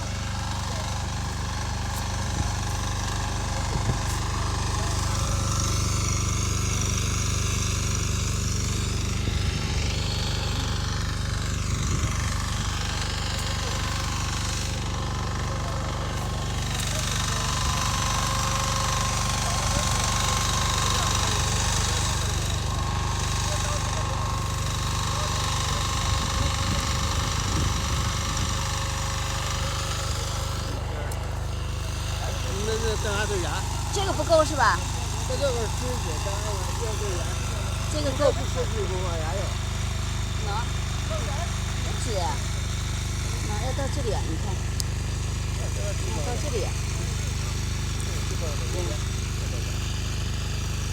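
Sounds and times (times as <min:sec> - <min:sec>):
tractor engine under load: 0:00.0 - 0:50.9.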